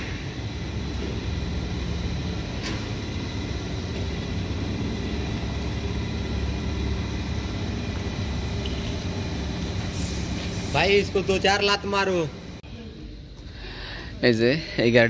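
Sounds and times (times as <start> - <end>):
faint constant hum: 0.0 - 15.0
low mechanical drone: 0.0 - 15.0.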